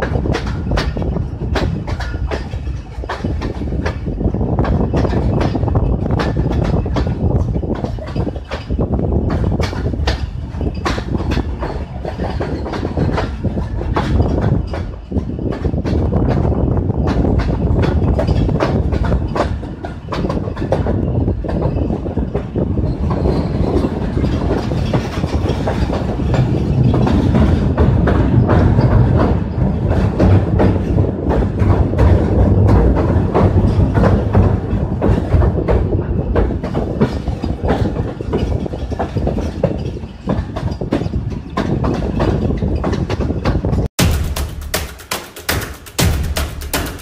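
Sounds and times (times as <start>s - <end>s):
rail-joint clicks: 0.0s - 47.0s
train wheels rumbling on rails: 0.0s - 47.0s.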